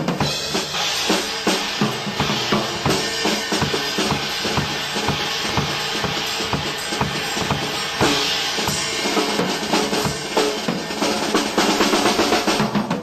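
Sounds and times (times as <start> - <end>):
acoustic drum kit playing: 0.0 - 13.0.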